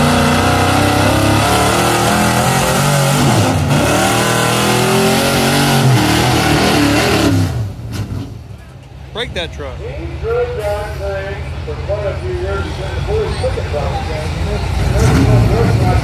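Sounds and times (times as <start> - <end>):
pickup truck engine at full throttle: 0.0 - 9.0, 9.9 - 16.0.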